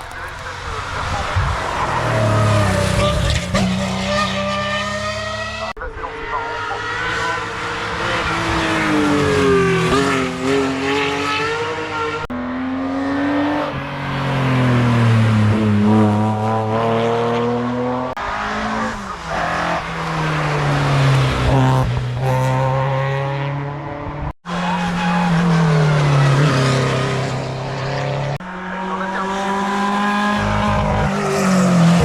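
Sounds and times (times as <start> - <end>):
race car engines revving: 0.0 - 32.0.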